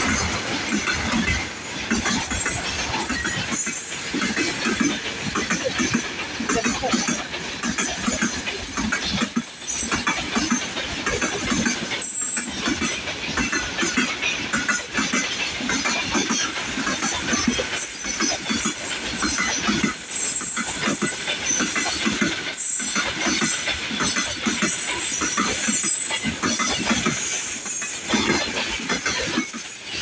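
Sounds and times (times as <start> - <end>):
freight train wheels rattling: 0.0 - 30.0.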